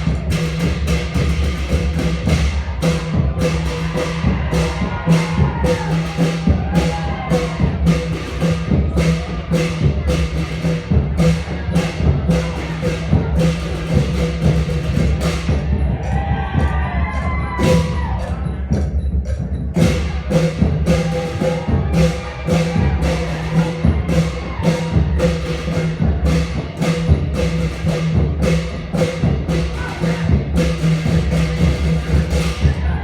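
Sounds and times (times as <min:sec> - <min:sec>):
cymbals striking: 0:00.0 - 0:33.0
long drums playing: 0:00.0 - 0:33.0.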